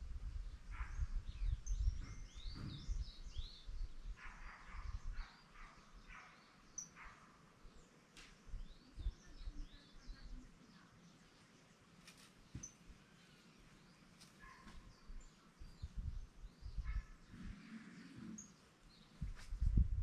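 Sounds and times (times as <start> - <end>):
birds chirping: 0.4 - 19.7.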